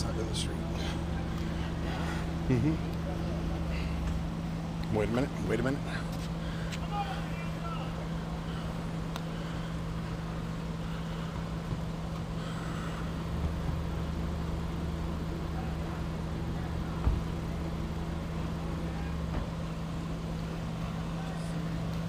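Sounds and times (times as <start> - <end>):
deeper engine note: 0.0 - 22.0
vehicle engine idling: 0.0 - 22.0.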